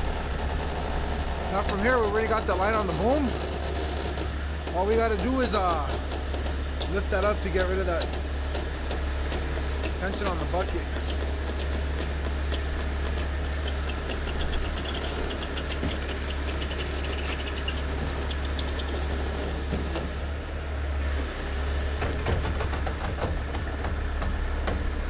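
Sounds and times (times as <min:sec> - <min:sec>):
diesel engine drone: 0:00.0 - 0:25.0.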